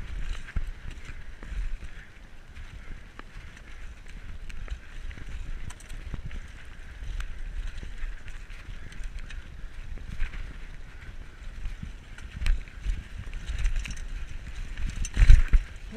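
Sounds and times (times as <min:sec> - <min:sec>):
bike rattling over bumps: 0:00.0 - 0:15.9
bike tyres on dirt trail: 0:00.0 - 0:15.9
wind rumble on microphone: 0:00.0 - 0:15.9.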